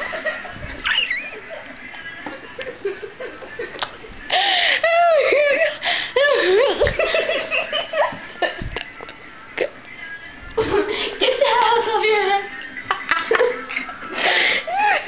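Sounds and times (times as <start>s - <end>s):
girls laughing: 0.0s - 8.7s, 10.6s - 15.0s.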